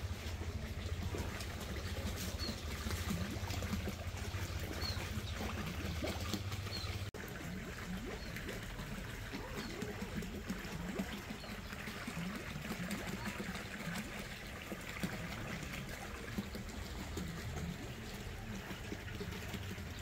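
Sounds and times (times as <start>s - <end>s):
water trickling and gurgling: 0.0s - 20.0s.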